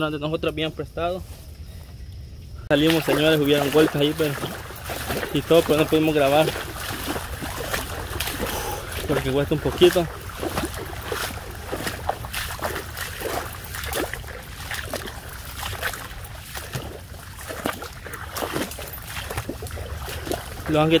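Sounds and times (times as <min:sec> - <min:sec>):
footsteps splashing in water: 0:02.7 - 0:21.0.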